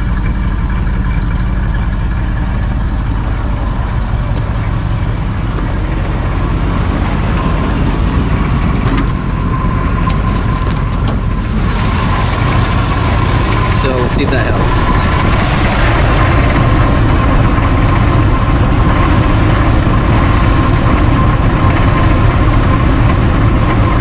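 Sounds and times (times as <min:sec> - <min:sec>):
pickup engine idling: 0:00.0 - 0:24.0
thin steady whine: 0:00.0 - 0:24.0.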